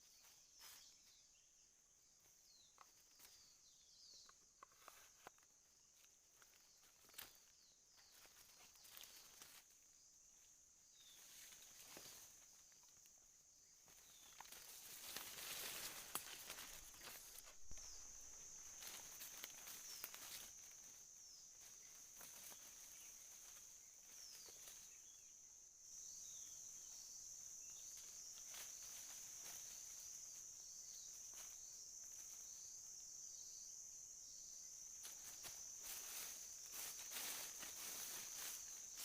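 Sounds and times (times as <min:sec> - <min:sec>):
insects: 0:00.0 - 0:39.0.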